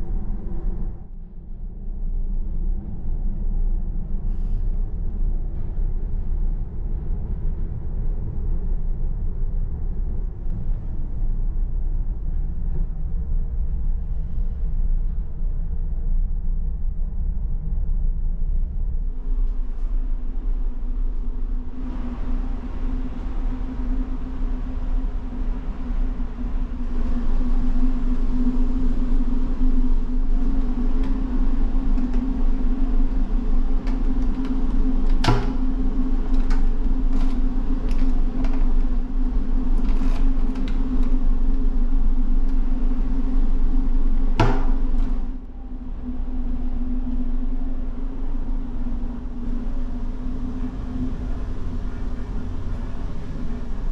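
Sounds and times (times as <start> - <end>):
engine and ventilation drone: 0.0 - 53.9.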